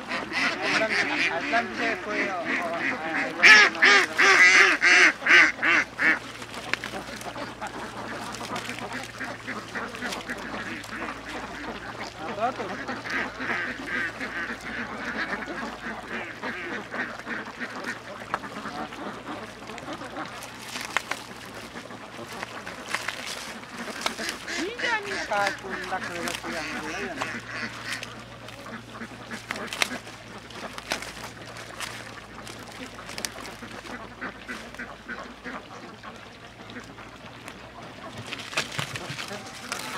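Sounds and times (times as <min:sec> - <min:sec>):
ducks quacking rapidly: 0:00.0 - 0:39.9
hands squelching in wet mud: 0:00.0 - 0:39.9.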